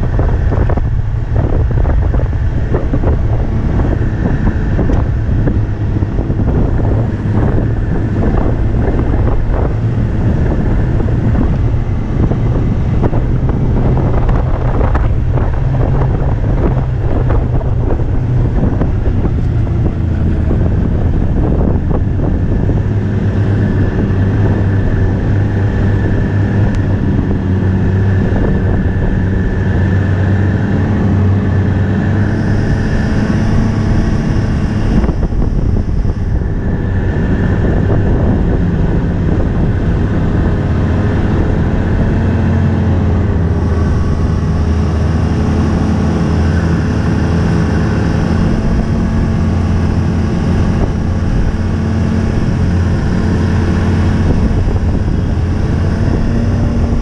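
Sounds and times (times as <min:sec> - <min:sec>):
rushing air: 0:00.0 - 0:57.0
snowmobile engine and track running: 0:00.0 - 0:57.0.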